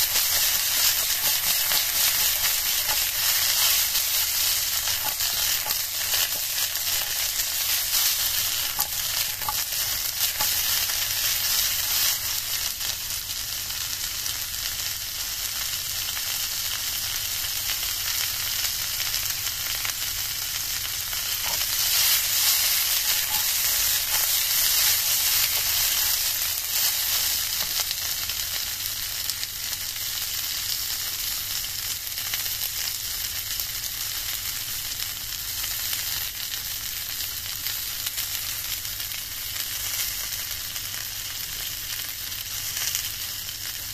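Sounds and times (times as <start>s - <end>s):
snow peas sizzling in oil: 0.0s - 43.9s.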